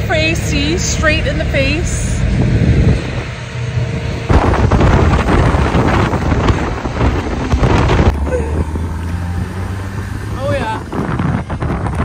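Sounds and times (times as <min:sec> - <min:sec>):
low car rumble: 0:00.0 - 0:12.0
wind buffeting microphone: 0:00.0 - 0:12.0.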